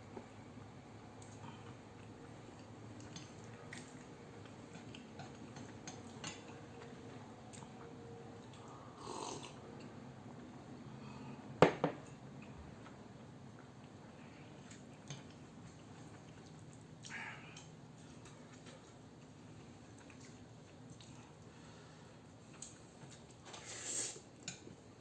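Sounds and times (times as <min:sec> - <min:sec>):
faint chewing: 0:01.2 - 0:10.0, 0:12.1 - 0:24.8.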